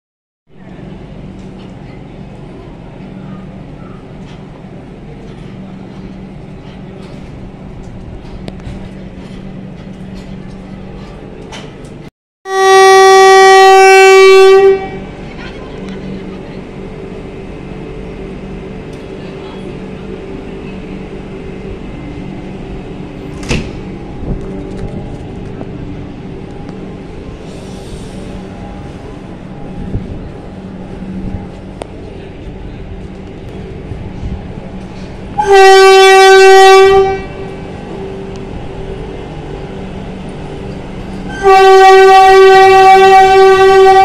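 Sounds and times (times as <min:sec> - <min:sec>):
electric train humming: 0:00.6 - 0:44.0.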